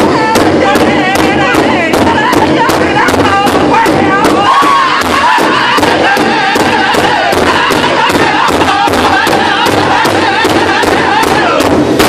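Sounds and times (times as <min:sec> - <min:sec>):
bass drum beating: 0:00.0 - 0:12.0
singers chanting in unison: 0:00.0 - 0:12.0.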